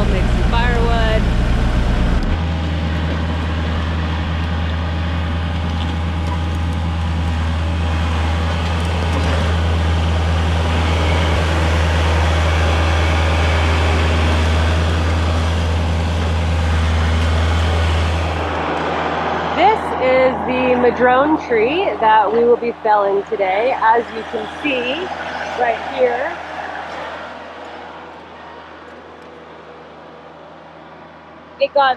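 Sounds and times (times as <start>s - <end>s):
vehicle engine droning: 0.0s - 31.9s.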